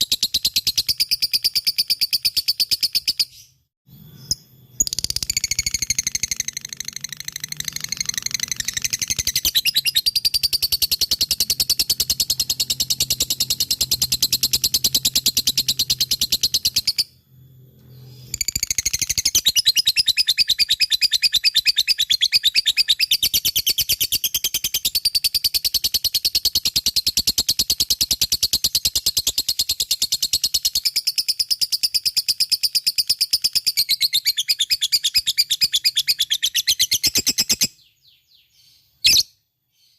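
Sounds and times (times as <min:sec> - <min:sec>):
lovebird chattering song: 0:04.2 - 0:17.1, 0:18.3 - 0:38.2, 0:39.0 - 0:39.4.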